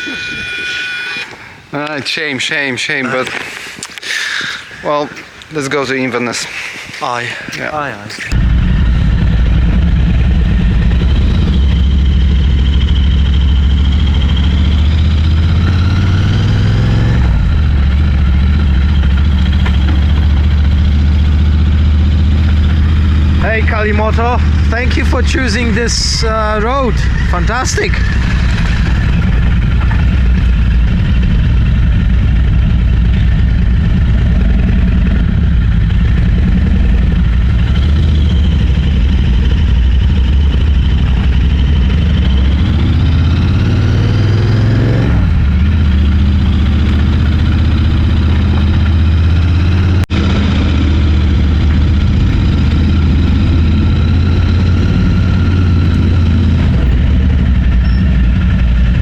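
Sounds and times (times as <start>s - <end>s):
motorcycle engine running: 8.3s - 59.0s.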